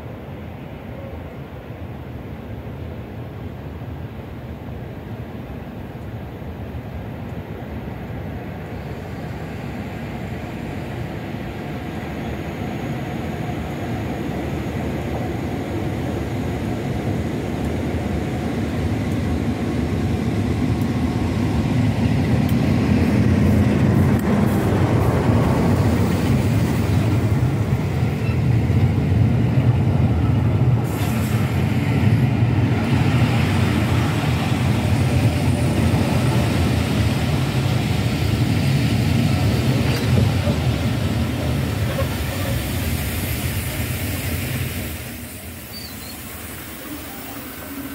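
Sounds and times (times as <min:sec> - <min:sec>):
diesel locomotive hauling train: 0:00.0 - 0:47.9
train wheels on rails: 0:04.4 - 0:47.9.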